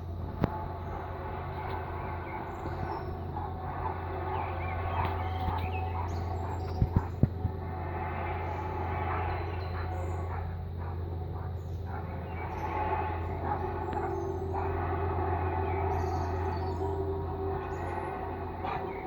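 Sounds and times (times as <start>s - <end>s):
steady low drone: 0.0s - 19.0s
steady tone: 0.0s - 19.0s
wavering tones: 0.0s - 19.0s
small birds chirping: 0.4s - 19.0s.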